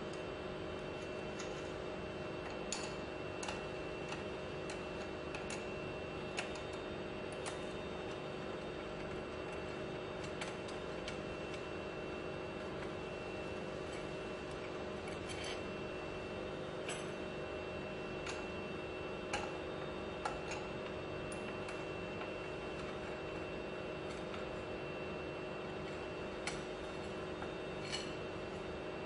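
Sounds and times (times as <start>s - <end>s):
workshop hum: 0.0s - 29.0s.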